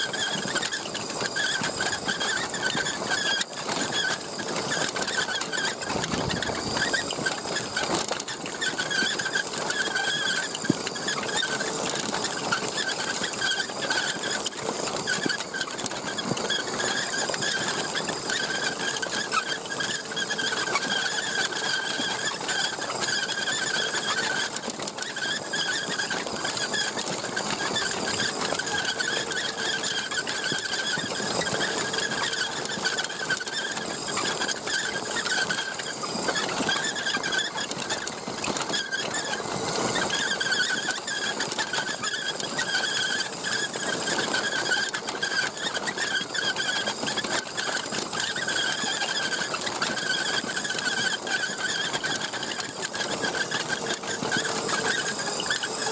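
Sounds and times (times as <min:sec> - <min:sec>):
electric motor and gears whine: 0:00.0 - 0:55.9.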